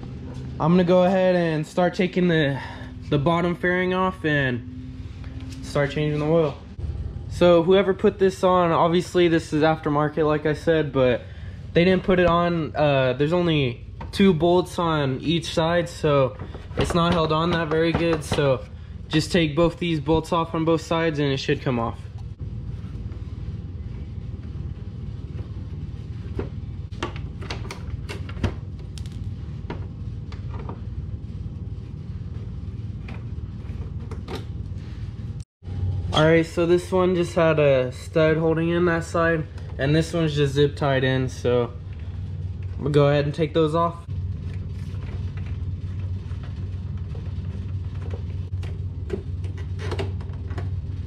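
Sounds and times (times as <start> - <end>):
steady low hum: 0.0 - 51.0
steady low rumble: 0.0 - 51.0.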